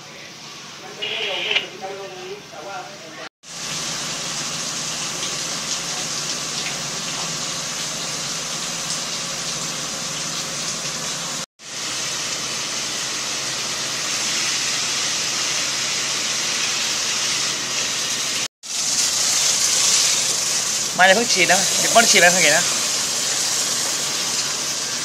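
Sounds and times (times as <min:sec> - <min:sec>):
fire hose spraying water: 0:03.4 - 0:25.0.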